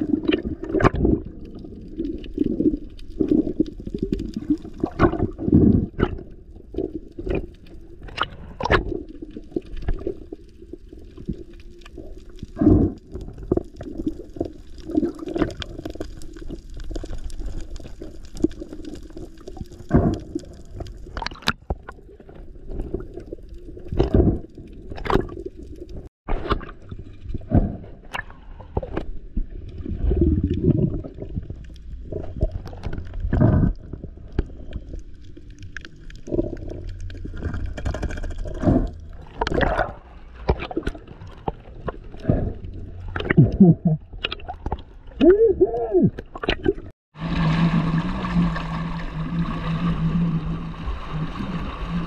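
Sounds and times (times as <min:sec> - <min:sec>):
underwater water rush: 0:00.0 - 0:52.0.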